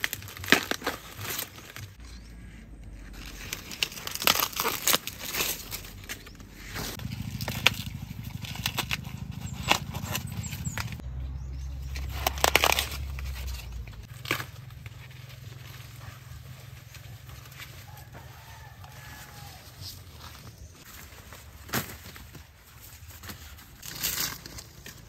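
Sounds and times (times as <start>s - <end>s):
corn leaves rustling: 0.0s - 11.0s, 11.6s - 25.0s.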